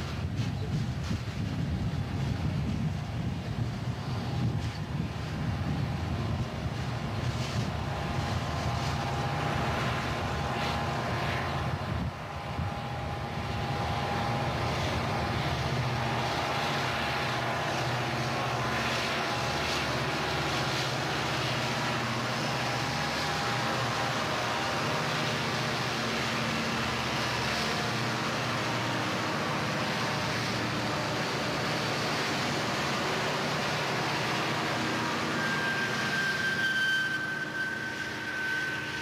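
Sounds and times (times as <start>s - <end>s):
diesel locomotive engines droning: 0.0s - 39.0s
train rolling on rails: 0.0s - 39.0s
high whine: 4.2s - 39.0s.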